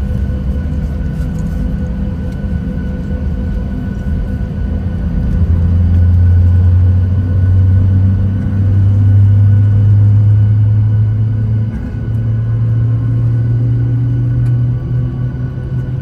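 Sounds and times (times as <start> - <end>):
jet engines low drone: 0.0 - 16.0.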